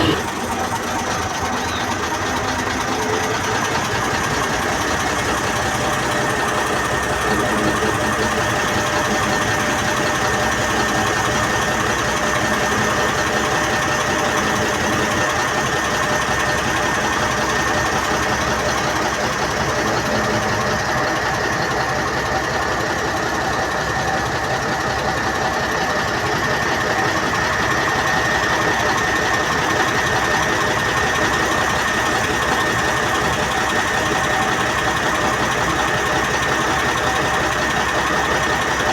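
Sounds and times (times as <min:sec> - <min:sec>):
high steady whine: 0:00.0 - 0:38.9
passenger train clatter and drone: 0:00.0 - 0:38.9.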